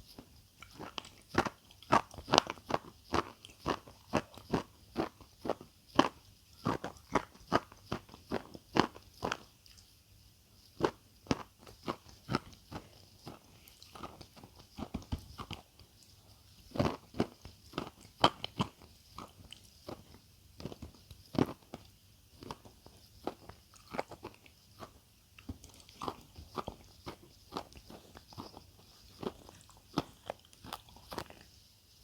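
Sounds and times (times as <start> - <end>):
crunching and chewing crisp food: 0.0 - 32.0.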